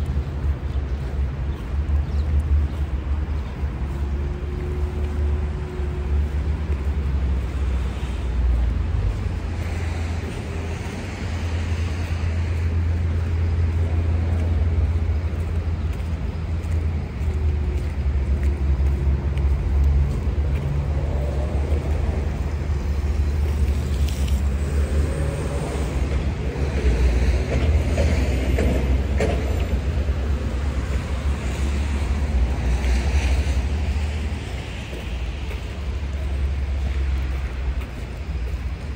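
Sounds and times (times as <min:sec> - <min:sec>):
engine notes of passing vehicles: 0:00.0 - 0:38.9
traffic low rumble: 0:00.0 - 0:38.9.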